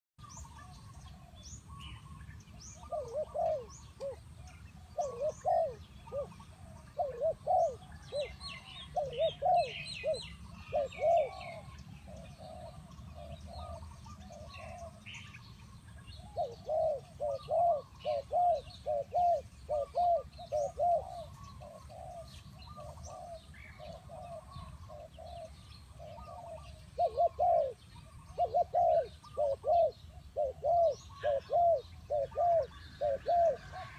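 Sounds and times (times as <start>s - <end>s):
small birds chirping faintly: 0.2s - 33.9s
dove cooing: 0.3s - 33.9s.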